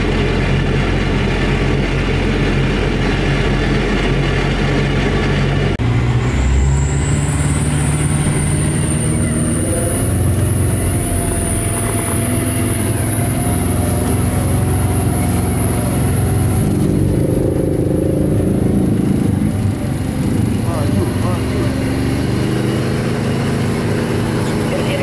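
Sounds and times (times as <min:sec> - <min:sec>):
engine droning inside cabin: 0:00.0 - 0:25.0.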